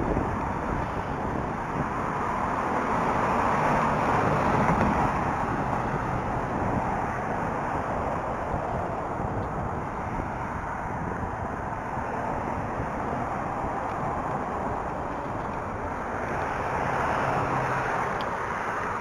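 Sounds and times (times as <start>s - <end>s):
road traffic passing: 0.0s - 19.0s
wind rumble on microphone: 0.0s - 19.0s.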